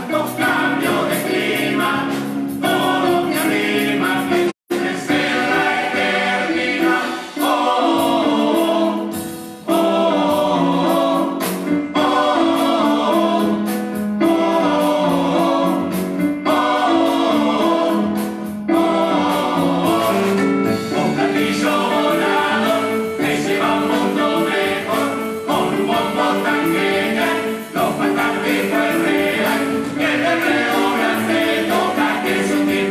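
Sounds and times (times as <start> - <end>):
chorus singing in harmony: 0.0 - 32.9.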